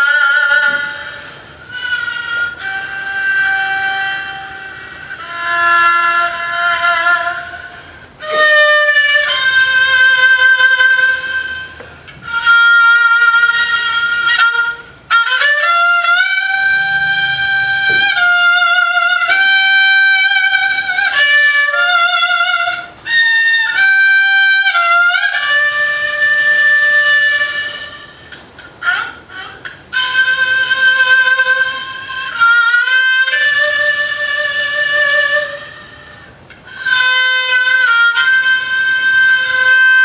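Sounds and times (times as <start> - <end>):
bowed fiddle solo: 0.0 - 40.0.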